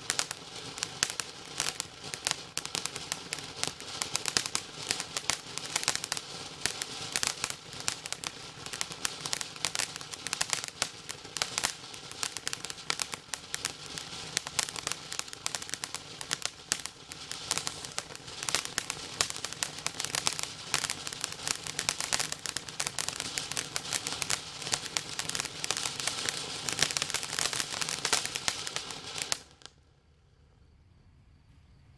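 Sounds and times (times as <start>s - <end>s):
firework fountain crackling: 0.0s - 29.8s.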